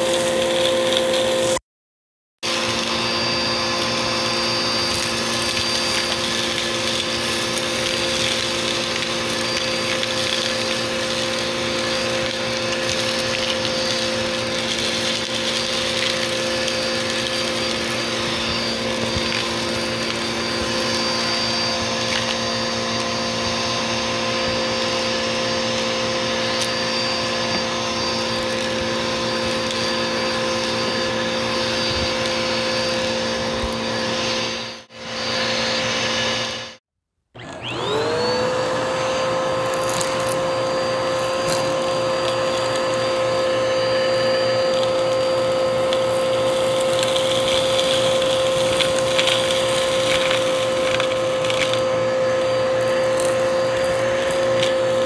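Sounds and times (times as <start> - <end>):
vacuum cleaner running: 0.0 - 1.6, 2.4 - 36.8, 37.4 - 55.0
debris crackling in vacuum: 2.5 - 34.1, 39.5 - 55.0.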